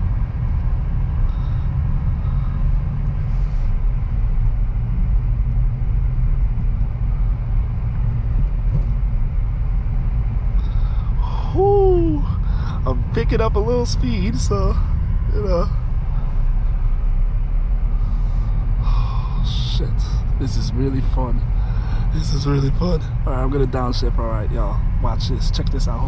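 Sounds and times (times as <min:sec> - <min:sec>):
car engine low rumble: 0:00.0 - 0:26.0
road noise inside car: 0:00.0 - 0:26.0.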